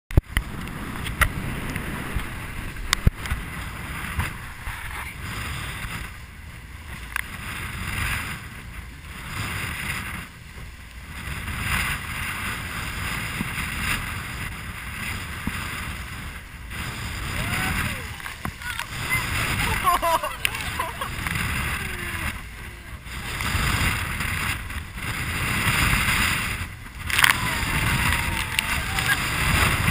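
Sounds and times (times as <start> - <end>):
wind buffeting microphone: 0.1 - 29.9
seawater rushing and splashing: 0.2 - 29.9.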